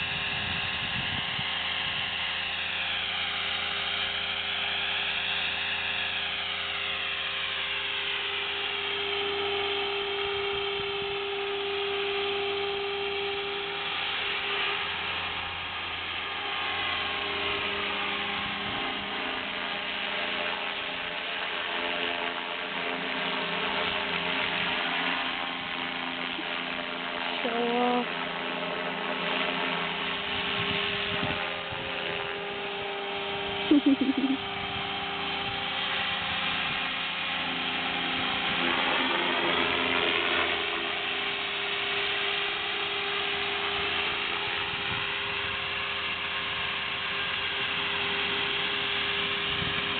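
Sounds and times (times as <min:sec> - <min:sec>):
rc helicopter whine: 0:00.0 - 0:49.9.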